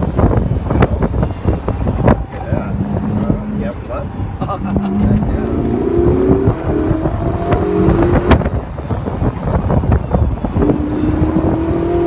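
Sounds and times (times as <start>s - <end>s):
wind buffeting microphone: 0.0s - 12.0s
car engine accelerating: 1.6s - 12.0s.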